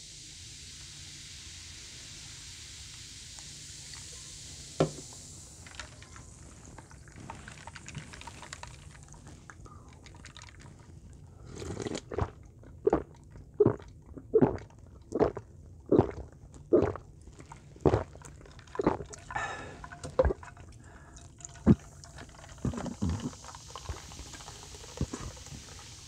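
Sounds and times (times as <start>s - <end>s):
person gulping soda: 4.8s - 26.0s.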